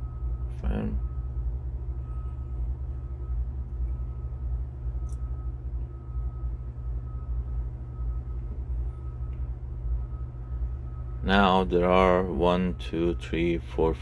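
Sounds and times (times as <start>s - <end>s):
diesel engine idling: 0.0s - 14.0s
faint high whine: 0.0s - 14.0s.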